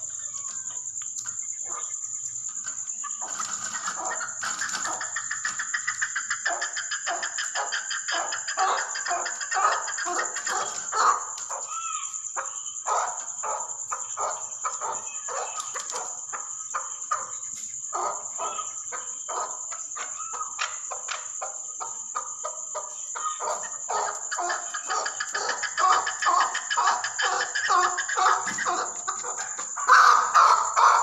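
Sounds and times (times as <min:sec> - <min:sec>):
partridge calling: 0:02.6 - 0:31.0.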